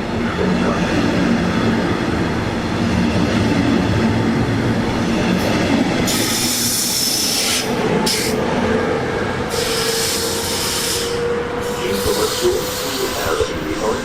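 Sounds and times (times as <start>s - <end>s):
train running on tracks: 0.0s - 14.0s.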